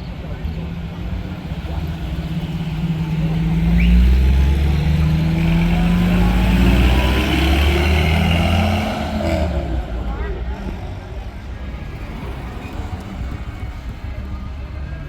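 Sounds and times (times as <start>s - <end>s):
vehicle engine running low revs: 0.4s - 15.0s.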